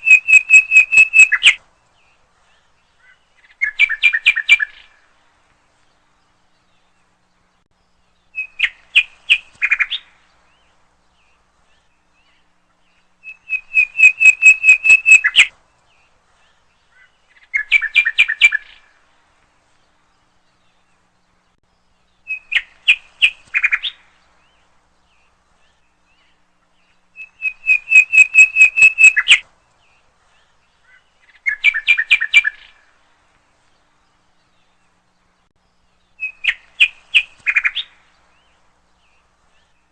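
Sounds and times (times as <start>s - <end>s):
bird chirping: 0.0s - 19.0s, 19.6s - 39.9s.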